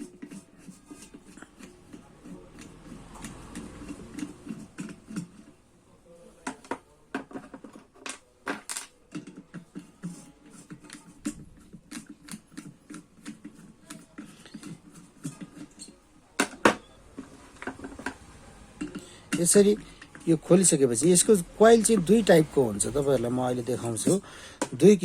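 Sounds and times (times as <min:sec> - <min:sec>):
metal scraping on plastic: 0:00.0 - 0:05.6, 0:09.0 - 0:25.0.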